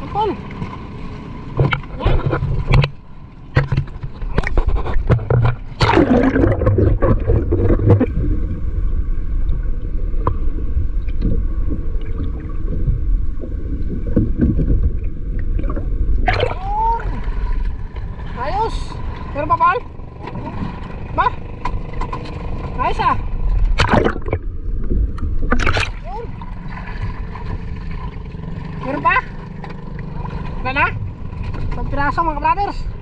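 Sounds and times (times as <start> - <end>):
boat engine rumble: 0.0 - 33.0
water noise: 0.0 - 33.0.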